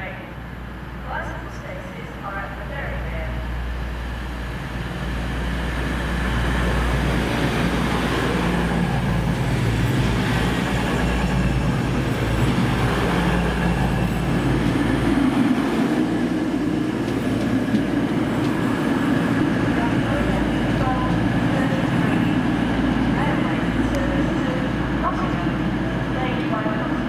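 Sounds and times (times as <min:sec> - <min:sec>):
diesel train engine and wheels: 0:00.0 - 0:27.0.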